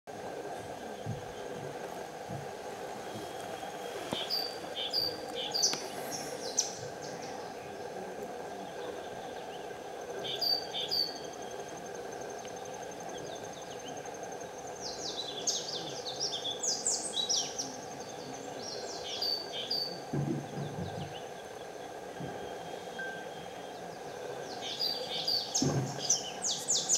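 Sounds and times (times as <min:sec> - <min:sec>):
insect drone with high whine: 0:00.1 - 0:26.9
small birds chirping: 0:00.6 - 0:26.9.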